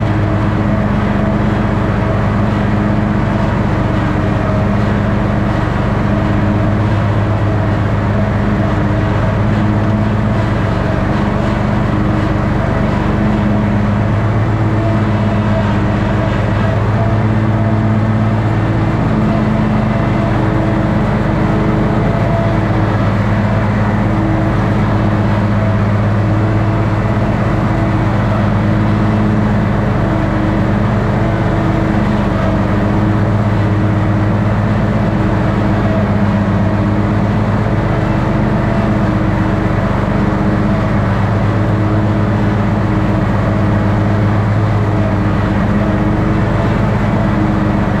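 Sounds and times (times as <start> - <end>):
ride-on mower engine running: 0.0 - 48.0.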